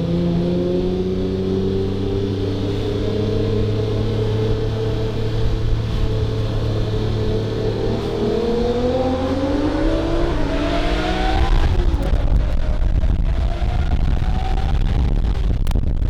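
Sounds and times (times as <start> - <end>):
car engine accelerating hard: 0.0 - 15.7
dense low rumble: 0.0 - 16.0.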